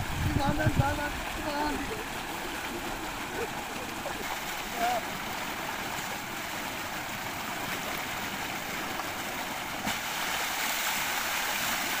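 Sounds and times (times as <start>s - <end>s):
water gushing from a pipe: 0.0s - 12.0s
water splashing: 0.0s - 12.0s.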